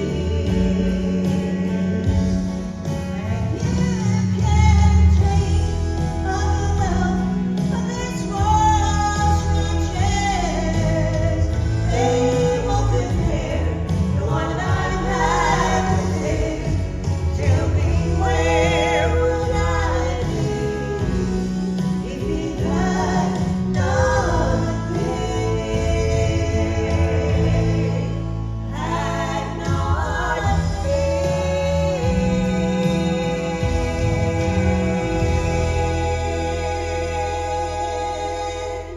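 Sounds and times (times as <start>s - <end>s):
instrumental accompaniment with bass: 0.0s - 38.9s
women singing gospel harmony: 0.0s - 38.9s.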